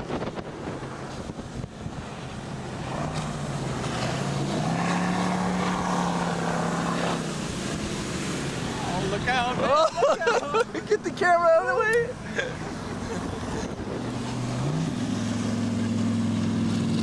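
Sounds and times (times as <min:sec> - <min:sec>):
motorboat engine: 0:00.0 - 0:17.0
water noise: 0:00.0 - 0:17.0
wind: 0:00.0 - 0:17.0.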